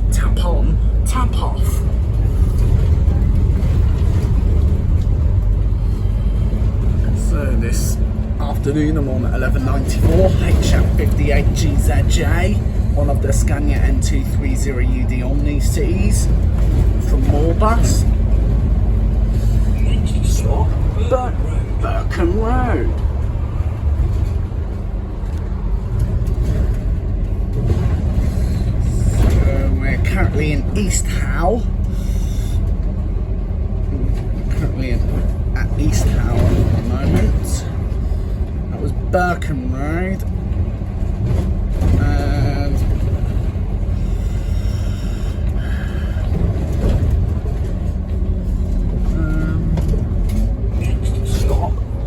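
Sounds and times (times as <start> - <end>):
bus engine rumbling inside cabin: 0.0 - 52.0.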